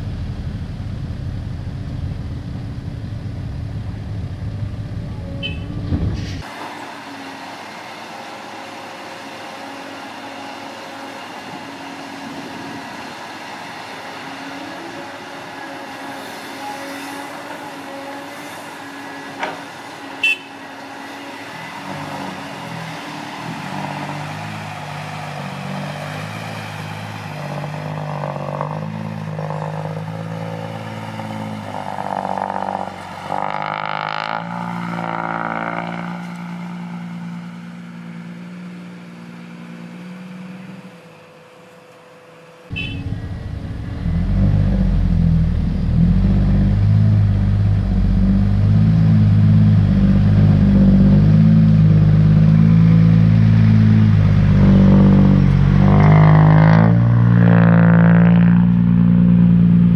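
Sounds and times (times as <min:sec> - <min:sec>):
diesel truck engines revving: 0:00.0 - 0:59.9.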